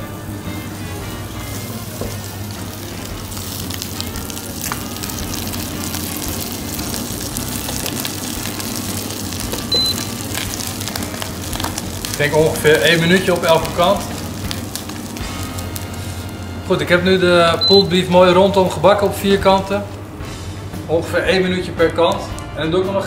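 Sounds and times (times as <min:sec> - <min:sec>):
beef sizzling in a frying pan: 0:00.0 - 0:20.9.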